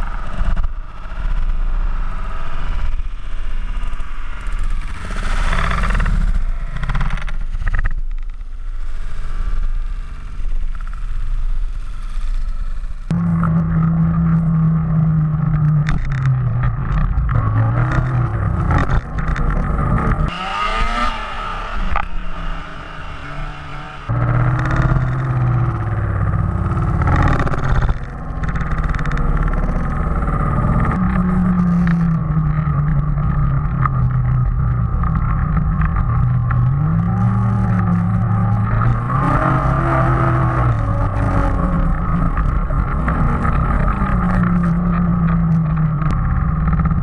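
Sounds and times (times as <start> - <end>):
snowmobile engine running: 0.0 - 47.0.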